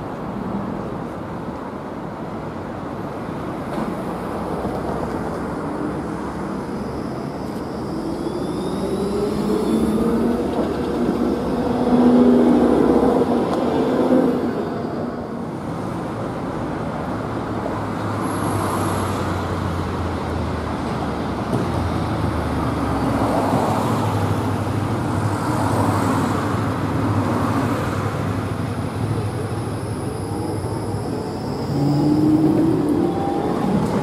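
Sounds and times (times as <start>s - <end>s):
road traffic noise: 0.0s - 34.0s
tram passing with drive hum: 0.0s - 34.0s.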